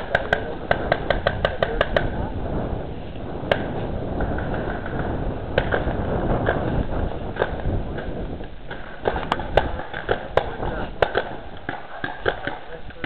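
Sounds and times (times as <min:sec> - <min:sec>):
paintball markers firing: 0:00.0 - 0:02.2, 0:03.5 - 0:13.0
low rumble: 0:00.3 - 0:11.8.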